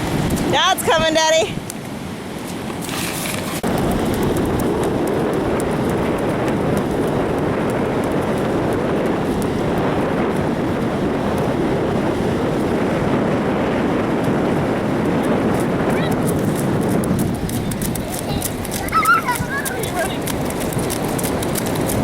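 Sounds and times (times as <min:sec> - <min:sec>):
ocean surf rushing: 0:00.0 - 0:22.0
wind buffeting microphone: 0:00.0 - 0:22.0.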